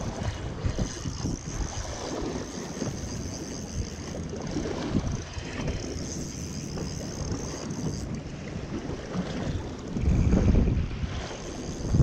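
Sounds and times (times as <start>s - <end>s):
sea water sloshing on hull: 0.0s - 12.0s
wind buffeting microphone: 0.0s - 12.0s.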